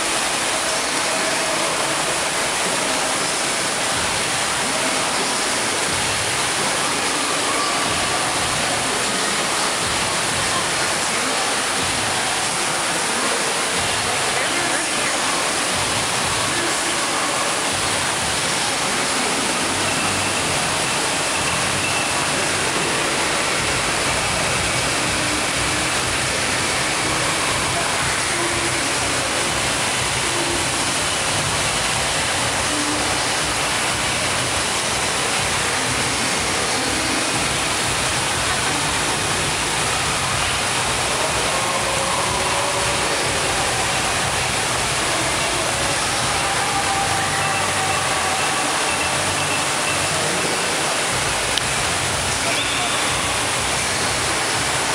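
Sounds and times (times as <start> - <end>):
rushing water hiss: 0.0 - 54.9.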